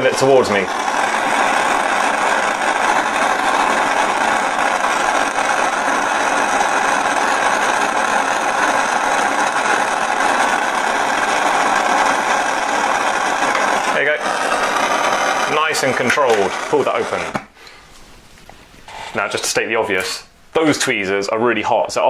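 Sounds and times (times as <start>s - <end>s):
gas torch hissing: 0.0s - 17.9s, 18.8s - 21.2s.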